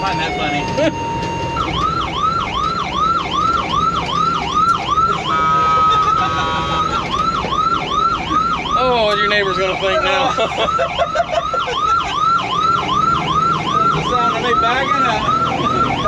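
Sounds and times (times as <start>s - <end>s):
fire truck siren yelping: 0.0s - 16.0s
truck engine rumbling: 0.0s - 16.0s.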